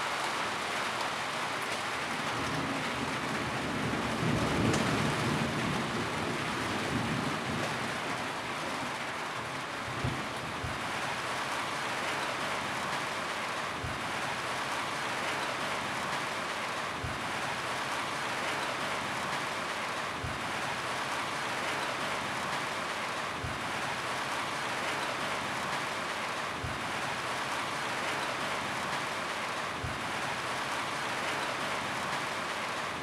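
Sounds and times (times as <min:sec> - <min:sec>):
rain on a roof: 0:00.0 - 0:33.0.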